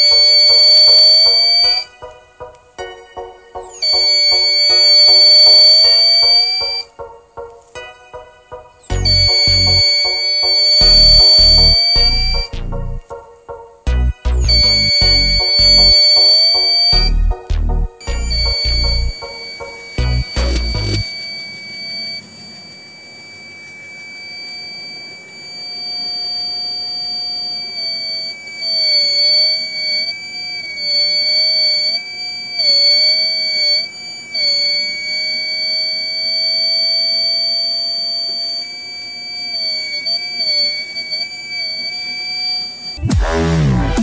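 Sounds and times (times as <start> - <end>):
high-pitched alarm buzzer tone: 0.0 - 7.2, 7.8 - 13.5, 14.4 - 44.0.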